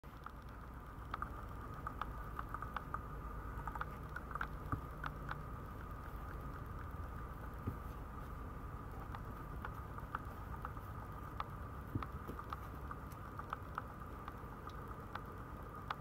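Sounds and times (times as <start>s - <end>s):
faint steady hum: 0.0s - 16.0s
puppy claws clicking and scratching: 0.1s - 7.9s, 8.9s - 16.0s.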